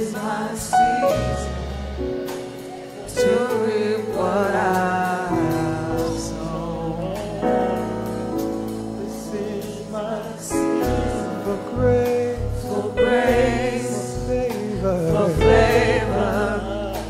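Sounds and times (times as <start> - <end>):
bass guitar: 0.0 - 17.0
gospel singers holding notes: 0.0 - 17.0.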